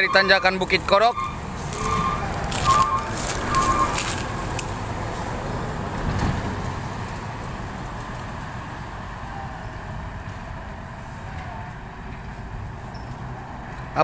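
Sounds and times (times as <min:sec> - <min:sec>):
truck diesel engines rumbling: 0:00.0 - 0:14.0.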